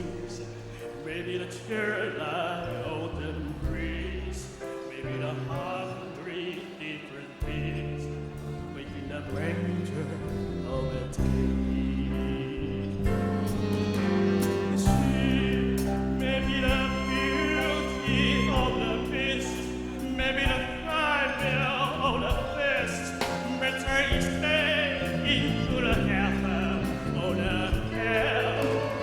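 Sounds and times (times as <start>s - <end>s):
jazz band playing slow ballad: 0.0s - 29.0s.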